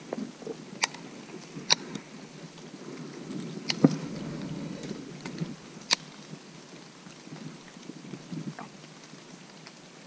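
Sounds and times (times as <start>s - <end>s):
rustling through brush: 0.0s - 8.6s.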